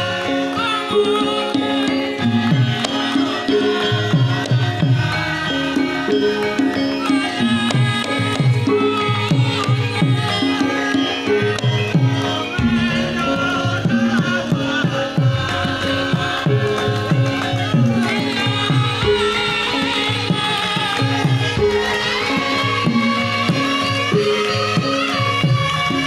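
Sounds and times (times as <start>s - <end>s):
pitched gamelan instruments: 0.0s - 26.0s.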